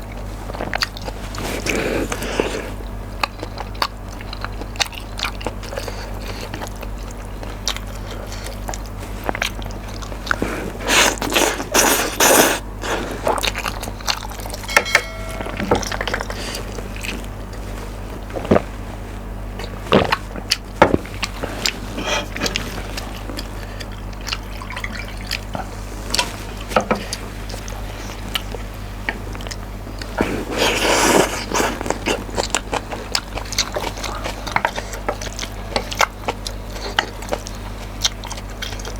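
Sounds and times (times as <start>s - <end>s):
wet chewing: 0.0s - 14.8s, 15.5s - 38.9s.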